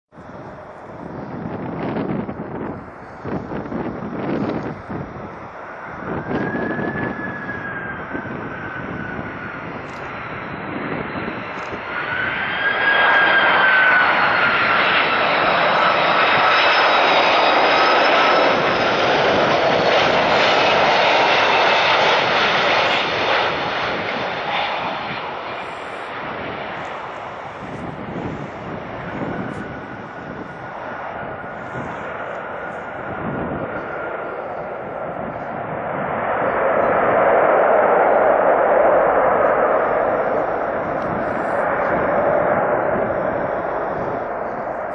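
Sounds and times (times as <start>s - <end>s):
jet aircraft passing: 0.2s - 44.9s.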